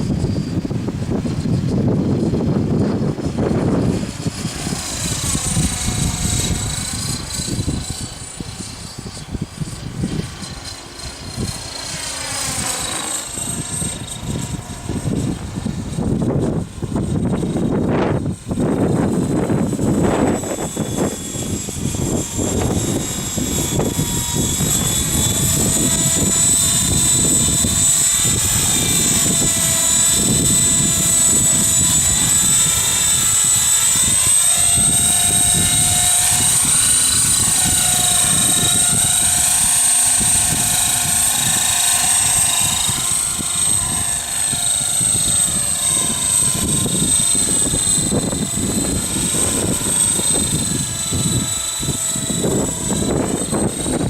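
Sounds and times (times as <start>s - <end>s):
model helicopter motor whine: 0.0s - 54.0s
wind rumble on microphone: 0.0s - 54.0s.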